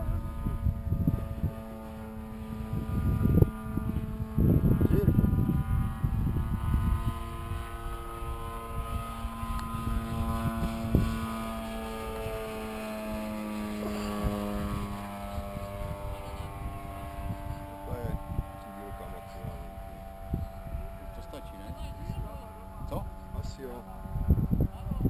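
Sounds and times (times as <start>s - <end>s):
model plane engine droning: 0.0s - 25.0s
wind buffeting microphone: 0.0s - 25.0s.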